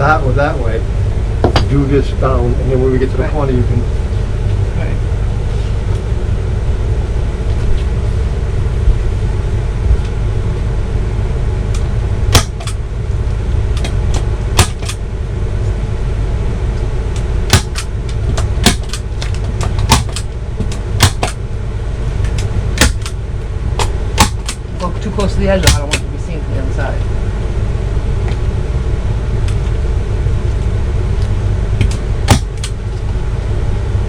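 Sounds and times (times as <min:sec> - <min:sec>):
low hum: 0:00.0 - 0:34.0.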